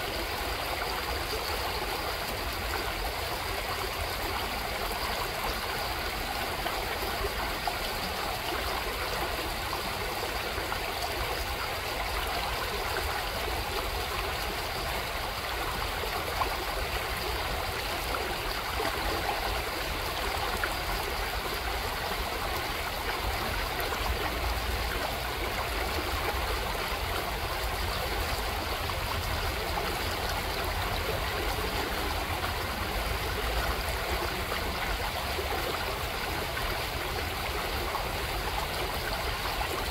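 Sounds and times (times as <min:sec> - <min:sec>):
creek running over stones: 0:00.0 - 0:39.9.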